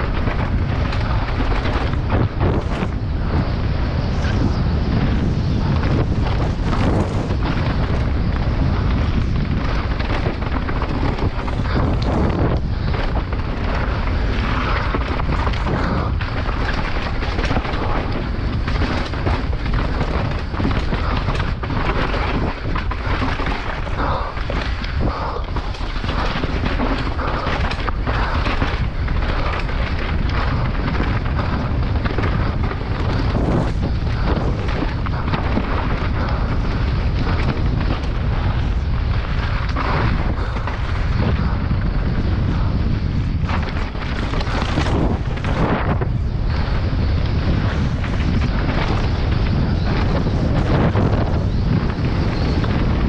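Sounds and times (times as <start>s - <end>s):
bike clattering over rough ground: 0.0s - 53.0s
bike tyres on gravel: 0.0s - 53.0s
wind buffeting: 0.0s - 53.0s.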